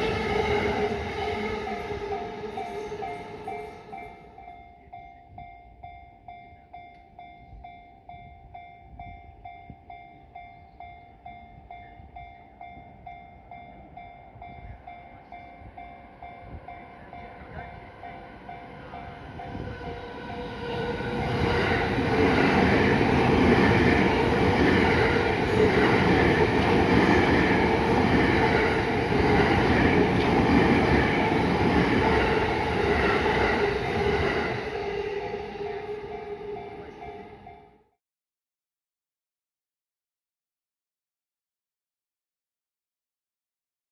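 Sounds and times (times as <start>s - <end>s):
electric train passing: 0.0s - 37.8s
level-crossing bell dinging: 0.0s - 37.8s.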